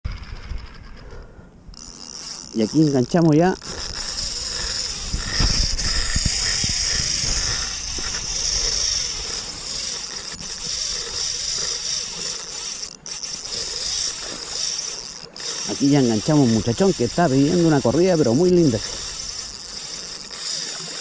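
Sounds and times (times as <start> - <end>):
fishing reel drag buzzing: 0.1 - 21.0.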